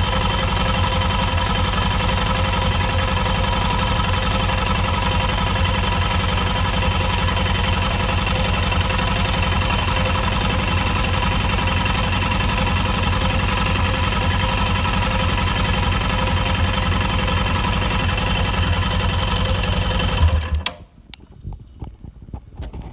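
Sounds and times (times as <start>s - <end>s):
motorcycle engine idling: 0.0s - 20.7s.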